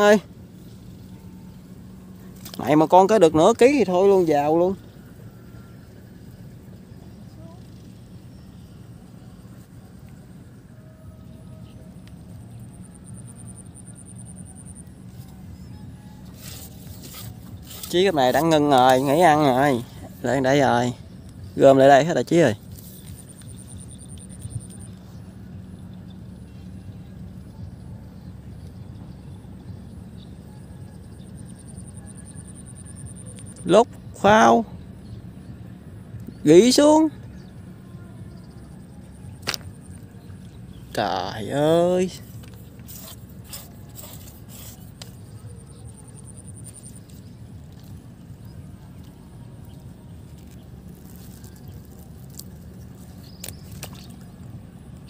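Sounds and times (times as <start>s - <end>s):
distant motor humming: 0.0s - 55.0s
steady low rumble: 0.0s - 55.0s.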